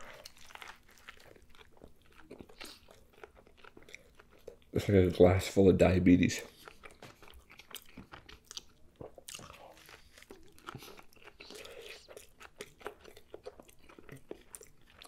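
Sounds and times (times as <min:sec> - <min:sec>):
wet chewing clicks and smacks: 0:00.0 - 0:04.8, 0:06.4 - 0:15.0.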